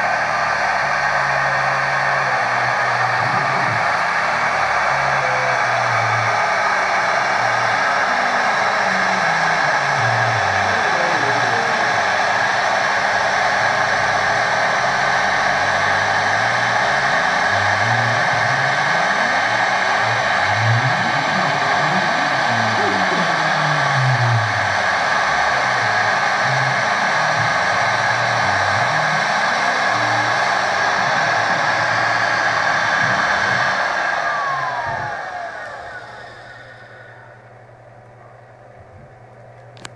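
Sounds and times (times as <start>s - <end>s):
motor hums shifting pitch: 0.0s - 37.8s
machine spindle hissing: 0.7s - 37.4s.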